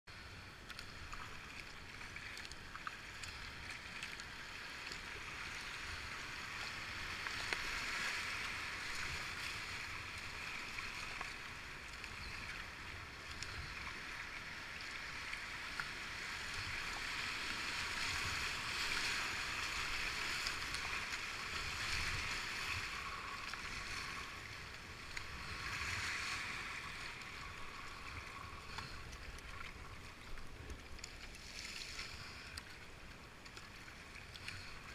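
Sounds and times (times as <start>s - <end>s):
paddle strokes splashing: 0.6s - 34.9s.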